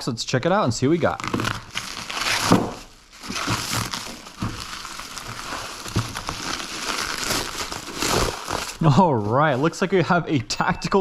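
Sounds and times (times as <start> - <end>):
bubble wrap crinkling: 0.8 - 10.0.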